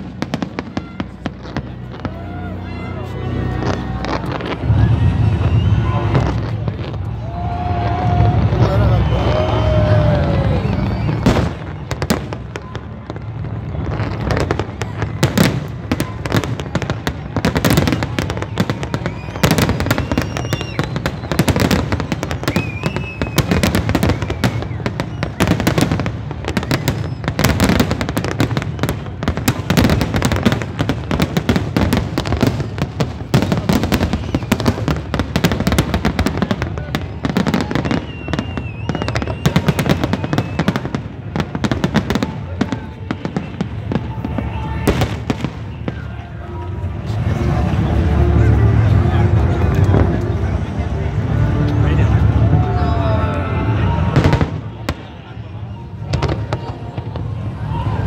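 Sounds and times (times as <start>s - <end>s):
fireworks bursting: 0.0s - 52.9s, 53.6s - 58.0s.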